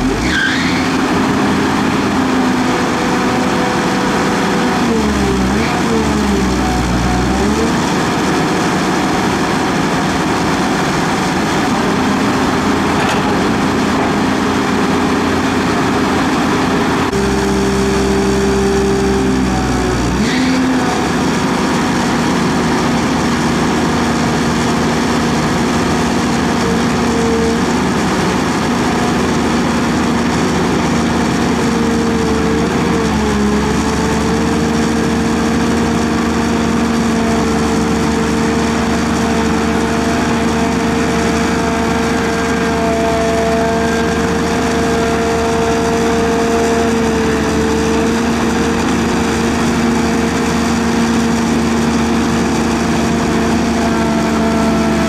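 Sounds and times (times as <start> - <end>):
excavator diesel engines: 0.0 - 55.0.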